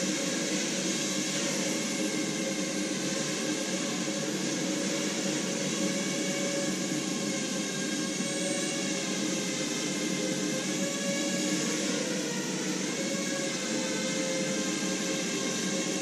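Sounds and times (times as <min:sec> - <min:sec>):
drone motors and propellers humming: 0:00.0 - 0:16.0.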